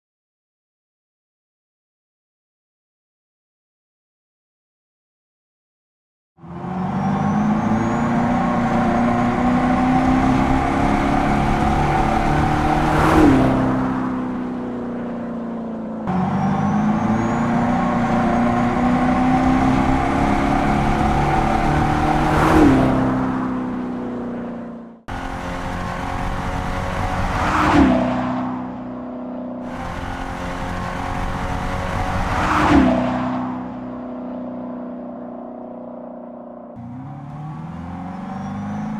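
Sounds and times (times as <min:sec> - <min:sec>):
car passing with engine-like drone: 0:06.4 - 0:38.9.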